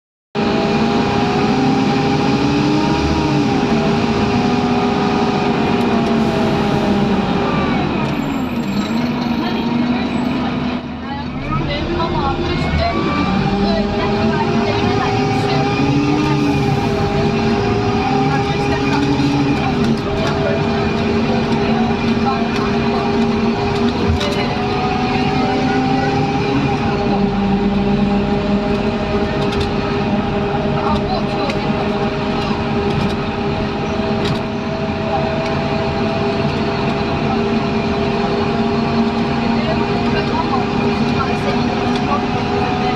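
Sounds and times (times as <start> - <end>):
bus diesel engine pulling: 0.4 - 42.9
road noise: 0.4 - 42.9.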